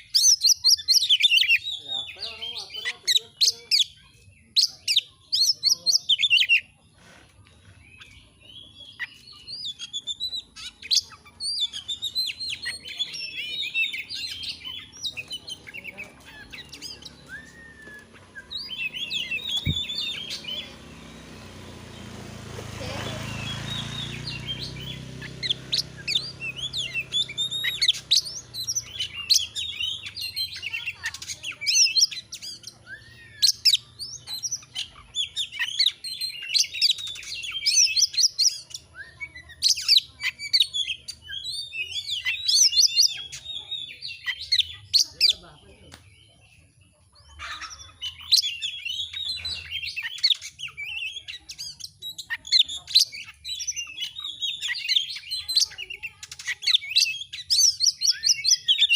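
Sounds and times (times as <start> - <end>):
bird singing chirps and trills: 0.0 - 58.9.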